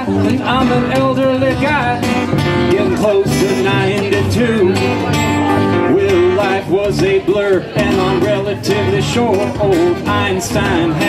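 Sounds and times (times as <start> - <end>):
acoustic country band playing: 0.0 - 11.0
strummed acoustic guitar: 0.0 - 11.0
upright bass: 0.0 - 11.0
sliding melody line: 0.1 - 11.0.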